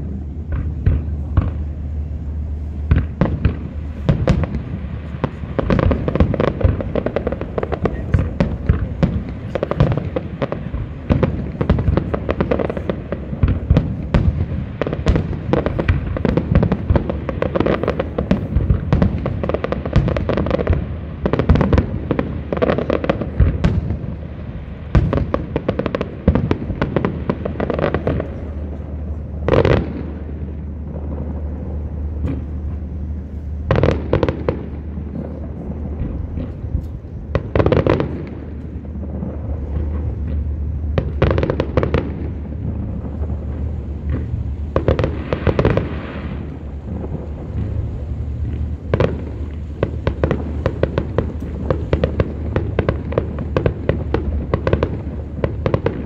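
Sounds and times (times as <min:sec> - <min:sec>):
fireworks bursting and crackling: 0:00.0 - 0:56.0
loud firework bangs: 0:00.0 - 0:56.0.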